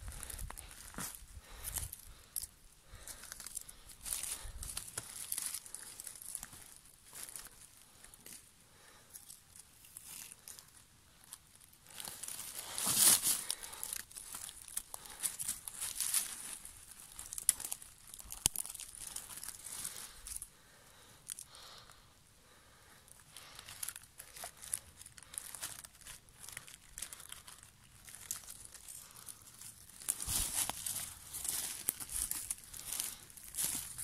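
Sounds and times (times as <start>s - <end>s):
dry leaves and twigs rustling: 0.0s - 20.6s, 23.0s - 34.0s.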